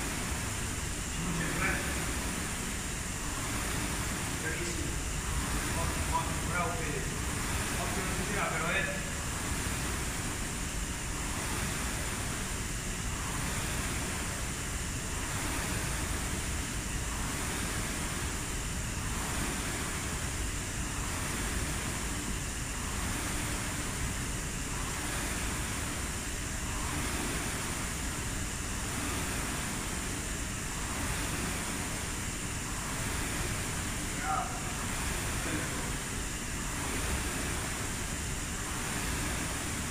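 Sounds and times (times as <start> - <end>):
rowing machine flywheel whooshing: 0.0 - 39.9.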